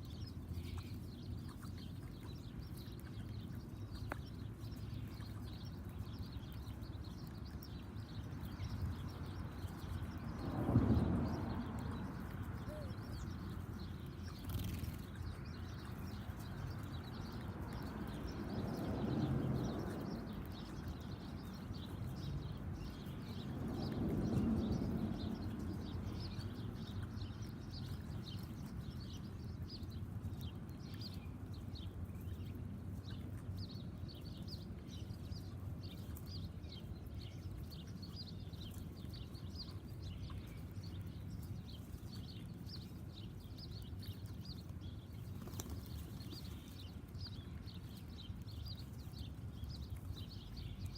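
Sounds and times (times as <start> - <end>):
small songbirds chirping: 0.0 - 50.9.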